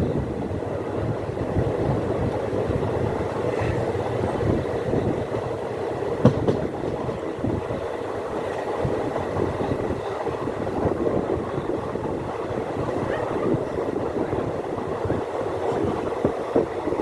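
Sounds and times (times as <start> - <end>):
train wheels clattering on rails: 0.0 - 17.0.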